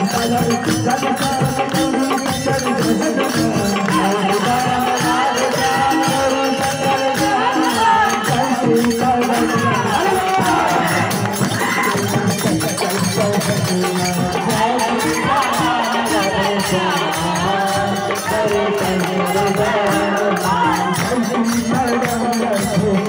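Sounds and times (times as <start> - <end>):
jingling hand percussion: 0.0 - 23.0.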